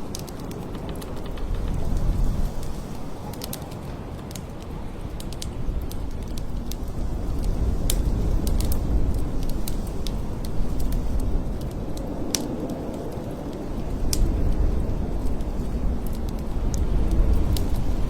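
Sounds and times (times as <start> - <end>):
blizzard wind rumbling: 0.0 - 18.0
sharp crackles and ticks: 0.0 - 18.0.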